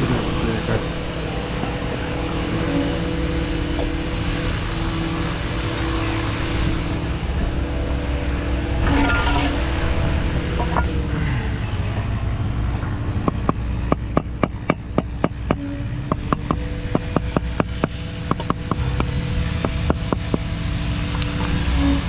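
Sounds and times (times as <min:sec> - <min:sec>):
engine-like rumble with hum: 0:00.0 - 0:22.0.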